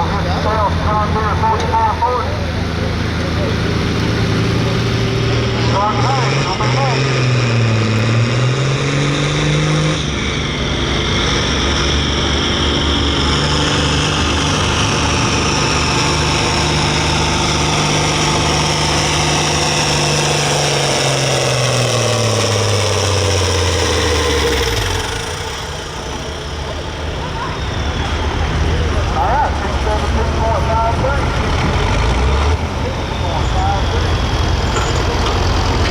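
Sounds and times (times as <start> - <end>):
diesel tractor engine under load: 0.0 - 35.9.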